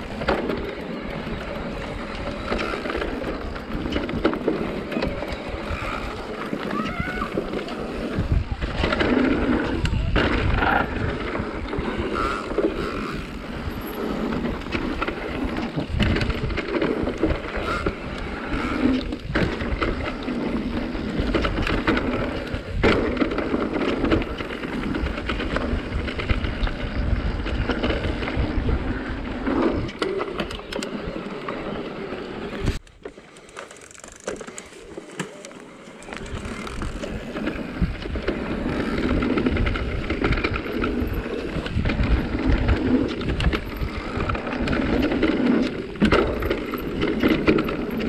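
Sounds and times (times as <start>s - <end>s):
tyres rumbling on dirt: 0.0s - 48.0s.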